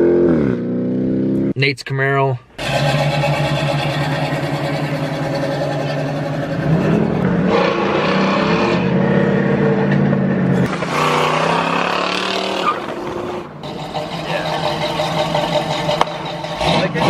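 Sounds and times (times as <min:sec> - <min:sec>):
car engine and exhaust revving: 0:02.6 - 0:17.0.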